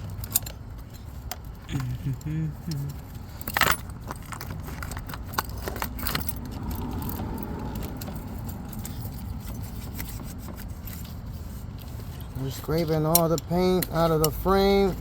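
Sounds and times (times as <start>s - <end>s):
metal tools clicking and scraping: 0.0s - 1.7s, 2.7s - 15.0s.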